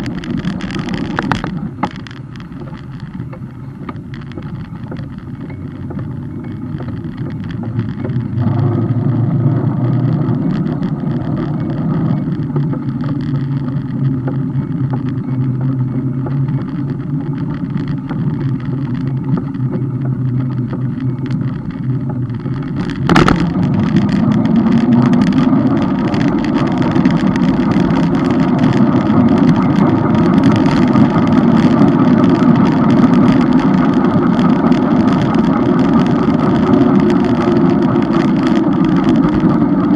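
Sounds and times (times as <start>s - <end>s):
road and vehicle noise: 0.0s - 39.9s.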